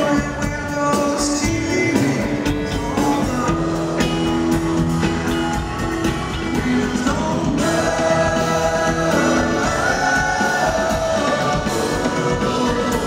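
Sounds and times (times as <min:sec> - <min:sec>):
electric guitar: 0:00.0 - 0:13.0
live rock band playing: 0:00.0 - 0:13.0.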